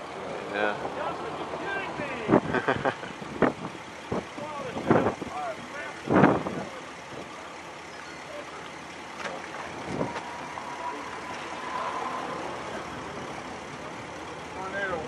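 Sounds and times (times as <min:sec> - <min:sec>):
road traffic noise: 0:00.0 - 0:15.0
wind: 0:00.0 - 0:15.0.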